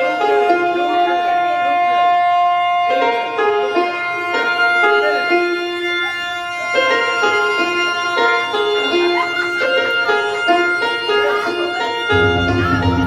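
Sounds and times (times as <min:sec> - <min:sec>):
keyboard melody over held tones: 0:00.0 - 0:13.0.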